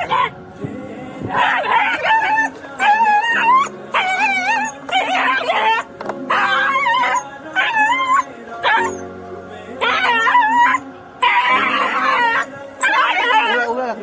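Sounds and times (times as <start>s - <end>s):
dog whining yelps: 0.0s - 0.4s, 1.3s - 9.0s, 9.8s - 13.8s
background music: 0.0s - 14.0s.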